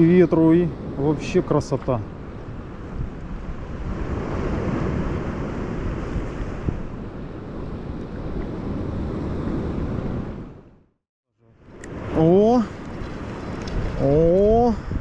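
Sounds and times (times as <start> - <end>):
sea surf rushing onto shore: 0.0 - 10.6, 11.6 - 15.0
wind buffeting microphone: 0.0 - 10.8, 11.8 - 15.0.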